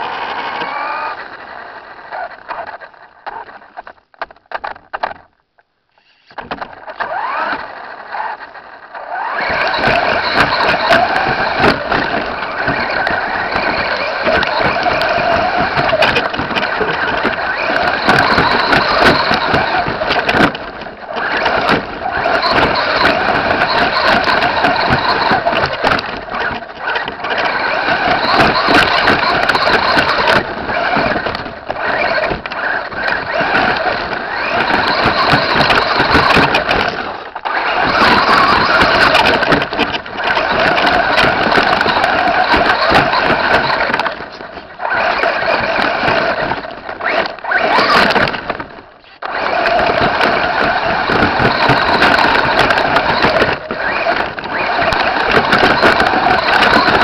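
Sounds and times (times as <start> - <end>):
electric motor whining: 0.0 - 3.8, 6.0 - 57.0
chassis rattling over dirt: 0.0 - 5.4, 6.1 - 57.0.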